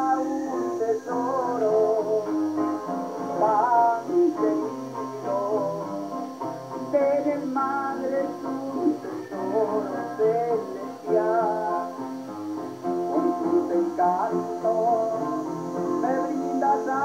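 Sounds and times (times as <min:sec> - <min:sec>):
man singing: 0:00.0 - 0:06.2, 0:06.8 - 0:12.2, 0:12.8 - 0:17.0
acoustic guitars strummed: 0:00.0 - 0:17.0.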